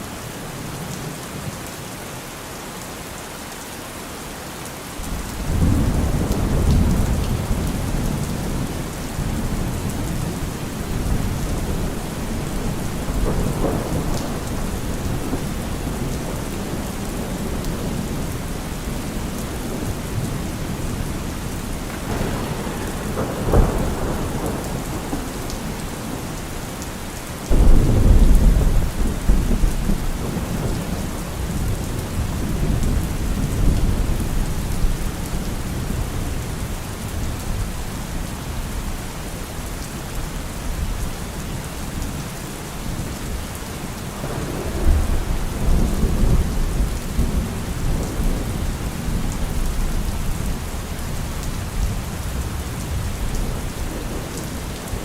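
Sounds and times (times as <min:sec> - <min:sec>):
heavy rain on a car roof: 0:00.0 - 0:55.0
thunder cracking and rumbling: 0:05.0 - 0:39.0, 0:43.9 - 0:55.0.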